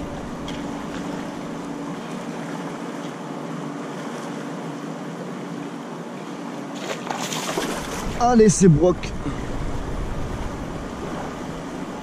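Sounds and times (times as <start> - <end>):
faint steady hum: 0.0 - 12.0
water on river surface: 0.0 - 12.0
wind: 0.0 - 12.0.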